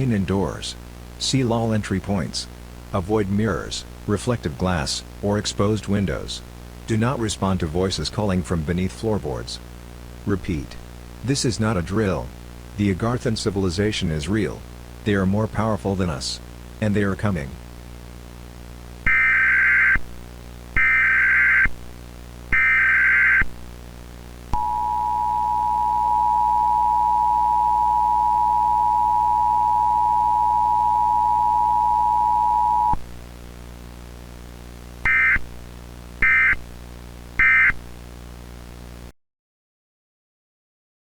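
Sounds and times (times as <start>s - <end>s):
faint low hum: 0.0s - 39.1s.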